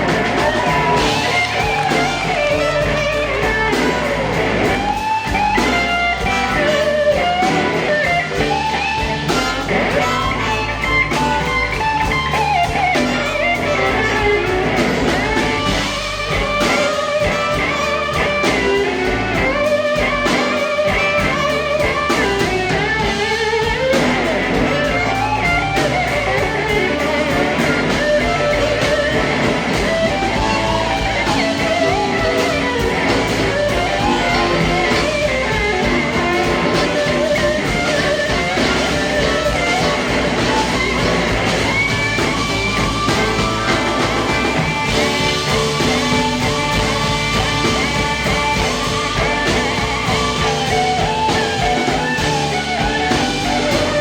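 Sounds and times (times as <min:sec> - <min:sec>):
bass: 0:00.0 - 0:54.0
drum kit: 0:00.0 - 0:54.0
electric guitar solo: 0:00.0 - 0:54.0.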